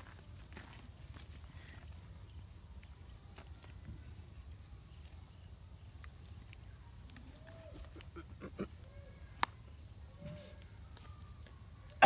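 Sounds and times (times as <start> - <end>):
insects chirping chorus: 0.0 - 12.0.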